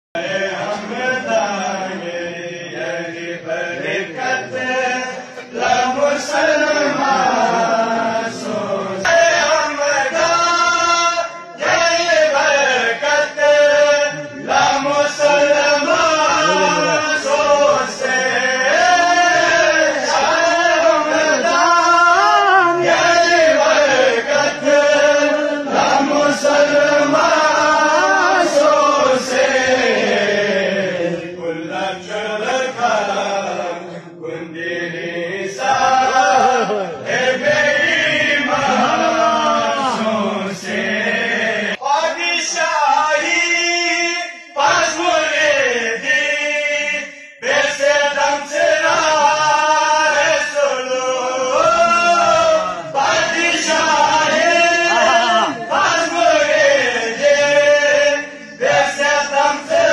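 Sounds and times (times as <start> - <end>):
men chanting with held notes: 0.2 - 59.9.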